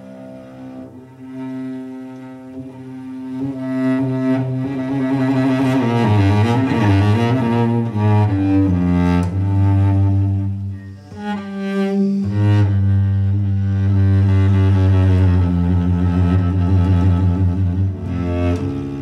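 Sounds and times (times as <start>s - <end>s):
cello and double bass: 0.0s - 19.0s.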